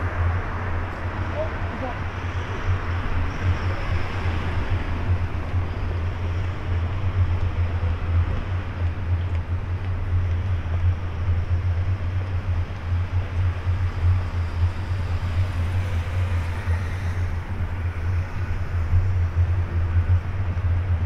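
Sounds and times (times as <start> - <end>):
steady low rumble: 0.0 - 21.0
traffic noise: 0.0 - 21.0.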